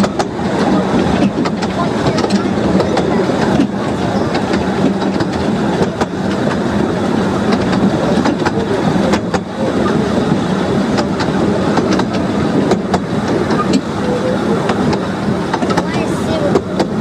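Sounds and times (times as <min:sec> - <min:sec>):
train wheels rumbling on track: 0:00.0 - 0:17.0
wheels clicking over rail joints: 0:00.0 - 0:17.0.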